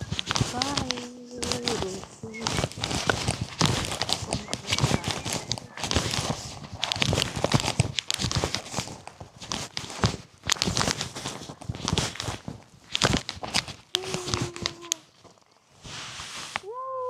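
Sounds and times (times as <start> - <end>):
footsteps crunching on gravel: 0.0 - 16.6.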